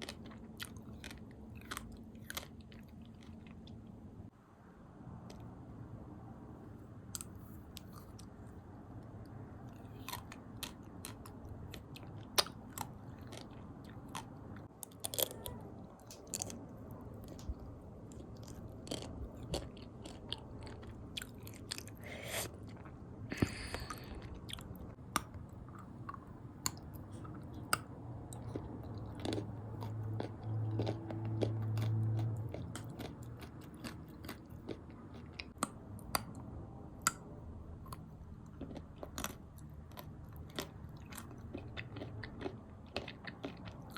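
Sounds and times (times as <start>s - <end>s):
chewing and crunching: 0.0s - 4.0s, 9.7s - 43.9s.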